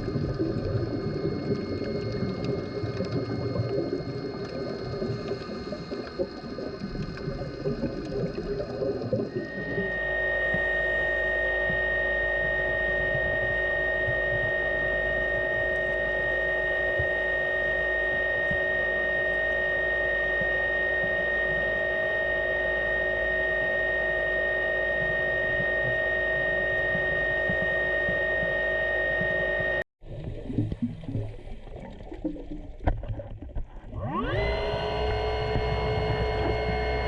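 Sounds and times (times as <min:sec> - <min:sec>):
underwater motor drone: 0:00.0 - 0:37.0.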